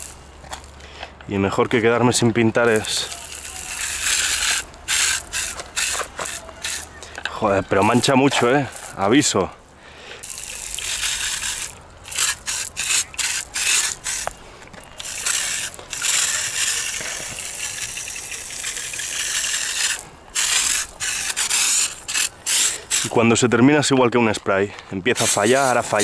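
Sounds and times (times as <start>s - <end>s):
paint sprayer hissing and sputtering: 0.0s - 0.8s, 2.1s - 23.4s, 25.1s - 26.0s.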